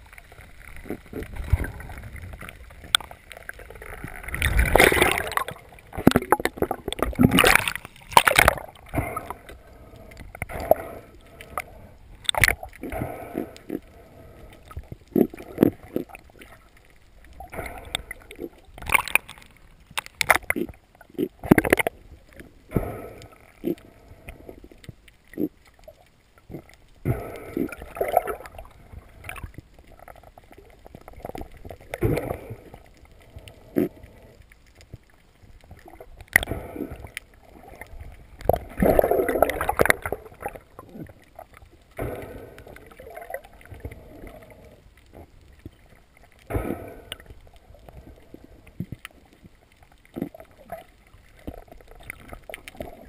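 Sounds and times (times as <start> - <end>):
water sloshing and gurgling: 0.0 - 53.0.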